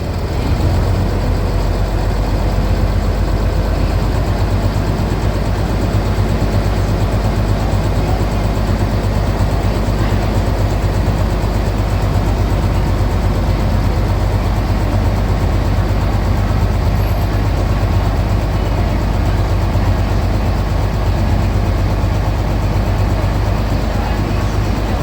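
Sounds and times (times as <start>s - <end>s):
bus diesel engine droning: 0.0s - 25.0s.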